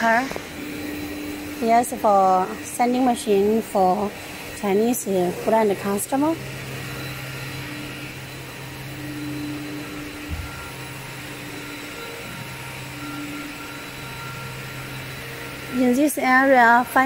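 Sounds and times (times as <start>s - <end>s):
factory machinery drone: 0.0s - 17.0s.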